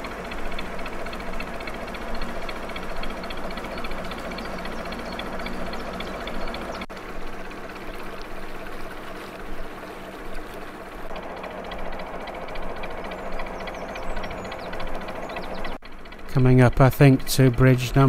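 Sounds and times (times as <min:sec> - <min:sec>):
boat diesel engine running: 0:00.0 - 0:18.0.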